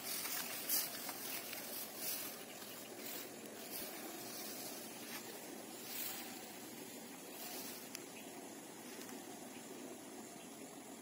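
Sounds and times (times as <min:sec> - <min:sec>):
footsteps rustling through grass: 0:00.0 - 0:09.6
steady outdoor hiss: 0:00.0 - 0:11.0.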